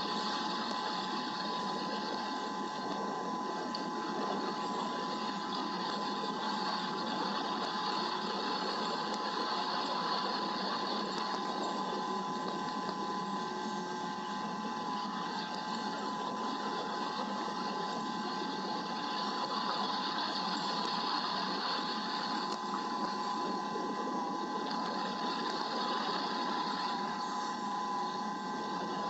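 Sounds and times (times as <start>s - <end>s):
thin steady whine: 0.0s - 29.0s.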